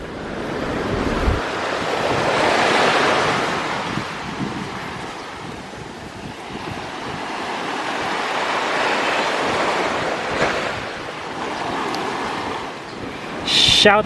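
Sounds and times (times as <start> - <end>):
wind buffeting microphone: 0.0 - 13.2
sea waves washing on beach: 0.0 - 13.5.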